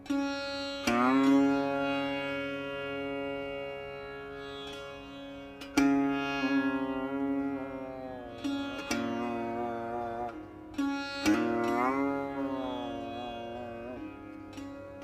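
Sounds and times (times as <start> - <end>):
setar plucked notes: 0.0 - 15.0.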